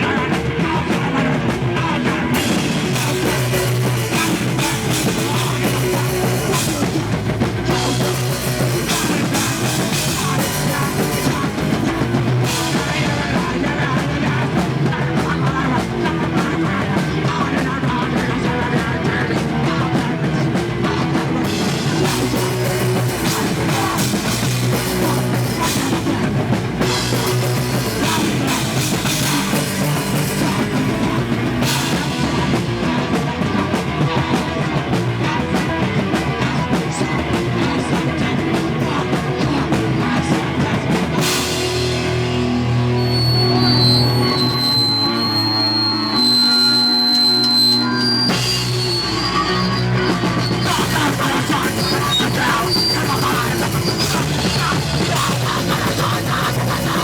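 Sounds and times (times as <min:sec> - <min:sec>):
distorted electric guitars: 0:00.0 - 0:57.0
drum kit playing: 0:00.0 - 0:57.0.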